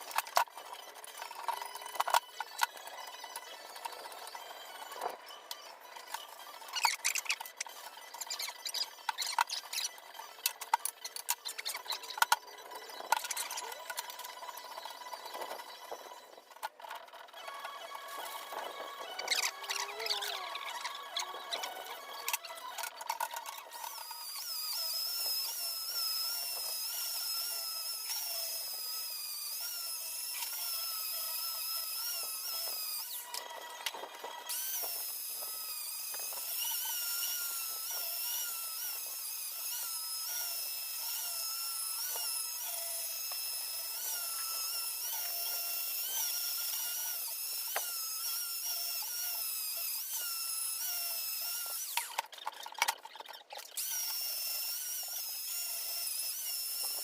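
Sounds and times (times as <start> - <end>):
power tool whining: 0.0 - 57.0.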